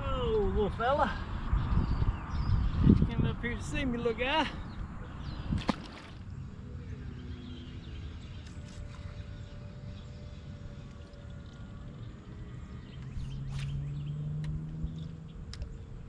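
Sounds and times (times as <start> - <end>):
wind and water rumble: 0.0 - 16.0.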